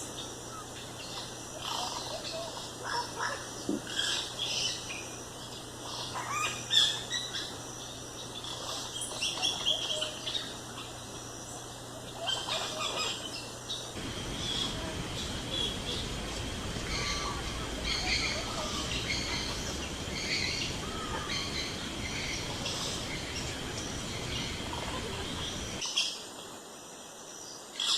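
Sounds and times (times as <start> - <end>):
wild birds chirping and whistling: 0.0 - 26.5, 27.3 - 27.9
forest background: 0.0 - 27.9.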